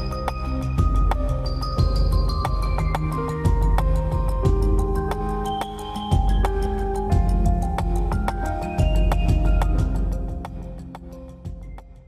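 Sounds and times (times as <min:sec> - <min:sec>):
synth music with bass and beat: 0:00.0 - 0:12.0.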